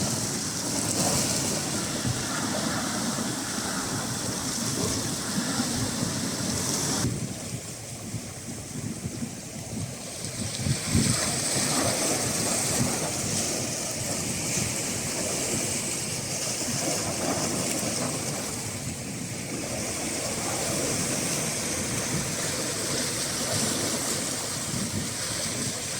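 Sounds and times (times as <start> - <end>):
sea waves and surf washing: 0.0 - 25.9.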